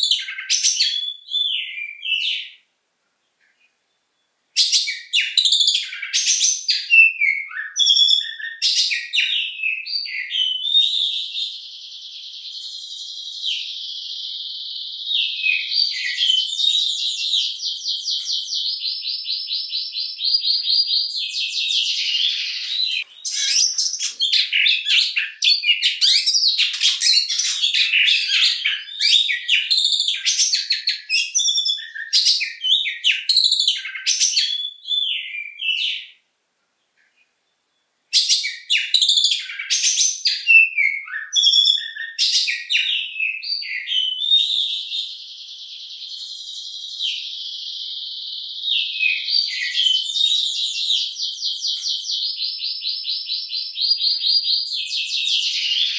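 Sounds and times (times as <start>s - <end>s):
bird singing and trilling: 0.0s - 2.7s, 3.5s - 36.2s, 37.1s - 55.9s.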